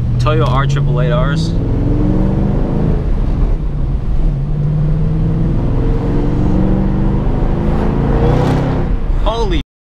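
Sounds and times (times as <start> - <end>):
car engine accelerating: 0.0 - 9.2.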